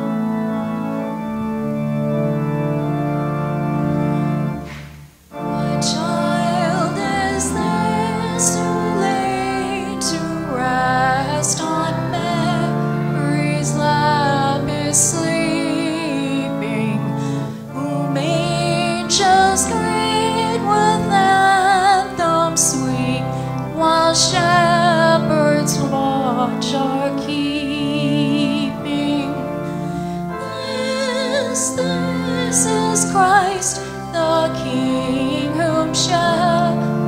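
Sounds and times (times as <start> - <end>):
sustained instrumental accompaniment: 0.0 - 37.0.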